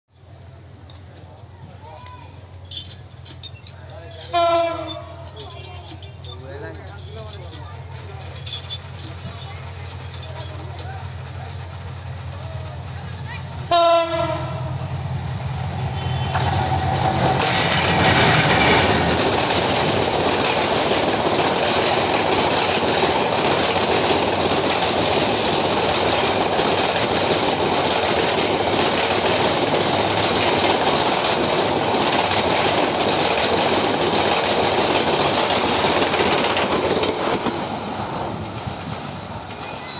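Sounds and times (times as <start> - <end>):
passenger train passing: 0.1 - 39.9
wheels rumbling on rails: 0.2 - 39.9.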